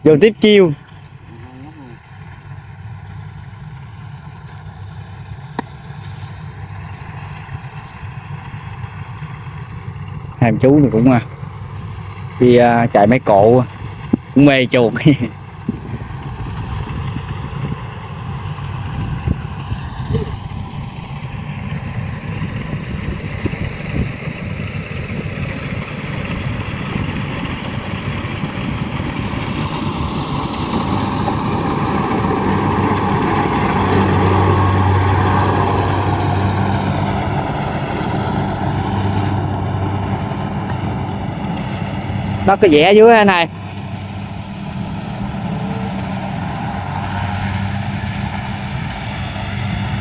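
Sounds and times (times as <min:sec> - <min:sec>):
engine running with low hum: 0:00.0 - 0:50.0.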